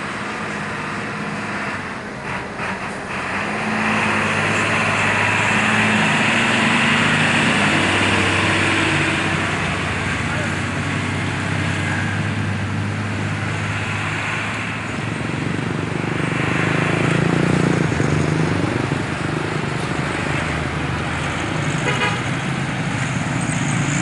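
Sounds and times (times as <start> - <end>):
bus engine passing: 0.0 - 24.0
motorcycle passing: 3.6 - 24.0.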